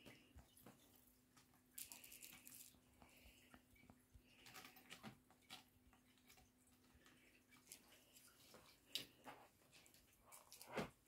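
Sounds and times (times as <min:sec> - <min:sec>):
faint steady hum: 0:00.0 - 0:11.0
faint ticks and rustles: 0:00.0 - 0:11.0.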